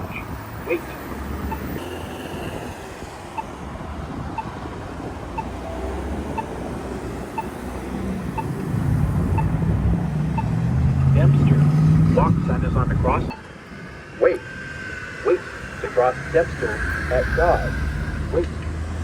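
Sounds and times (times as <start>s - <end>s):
pedestrian signal locator tone ticking: 0.0s - 14.5s, 15.3s - 19.0s
street traffic: 0.0s - 19.0s
vehicle engine rumble: 0.0s - 19.0s.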